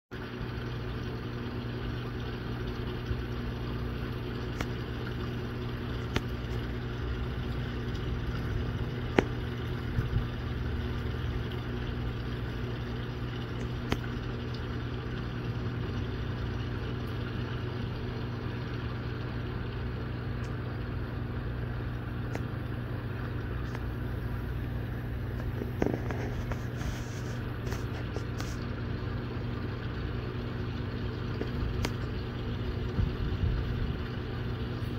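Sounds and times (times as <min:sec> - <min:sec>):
machinery humming: 0:00.2 - 0:34.9.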